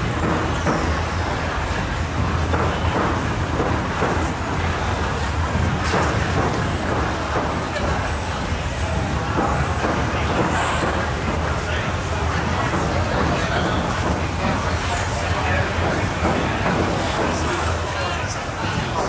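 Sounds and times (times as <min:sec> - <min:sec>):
crowd murmur: 0:00.0 - 0:19.0.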